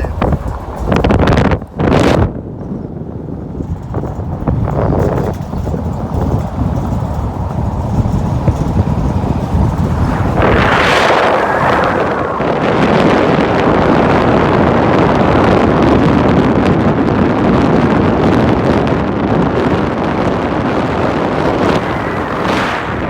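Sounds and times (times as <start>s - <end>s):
road and vehicle noise: 0.0s - 23.0s
wind buffeting microphone: 0.0s - 23.0s.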